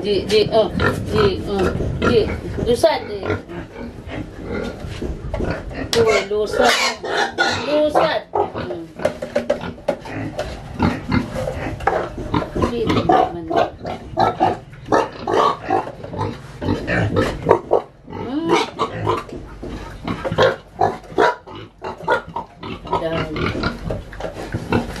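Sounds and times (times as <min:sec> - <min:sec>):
pigs grunting: 0:00.6 - 0:25.0.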